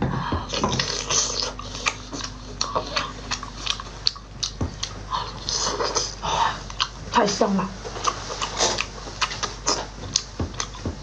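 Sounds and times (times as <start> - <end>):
wet chewing and smacking: 0.4 - 11.0.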